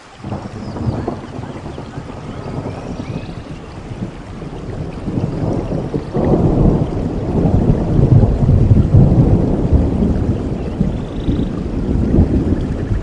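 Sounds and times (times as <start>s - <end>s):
rolling thunder rumble: 0.0s - 13.0s
steady rain: 0.0s - 13.0s.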